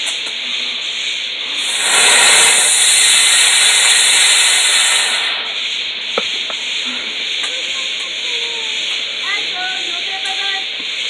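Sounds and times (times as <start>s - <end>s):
firework hissing: 0.0s - 11.0s.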